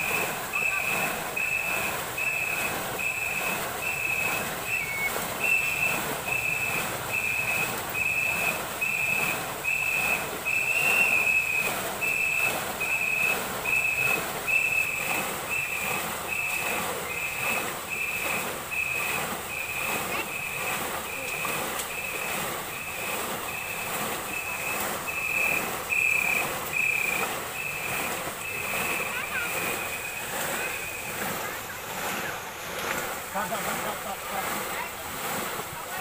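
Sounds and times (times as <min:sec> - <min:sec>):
whistle blasts: 0:00.0 - 0:31.2
paddles splashing in water: 0:00.0 - 0:36.0.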